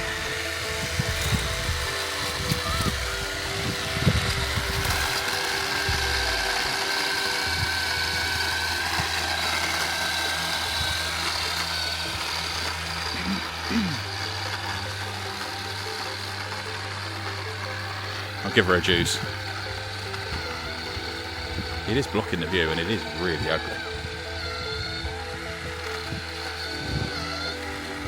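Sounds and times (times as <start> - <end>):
chainsaw idling: 0.0 - 28.0.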